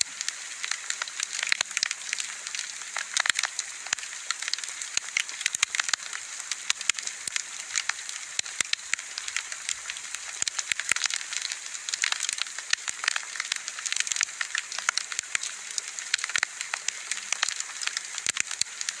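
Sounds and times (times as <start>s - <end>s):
bonfire crackling and hissing: 0.0s - 19.0s.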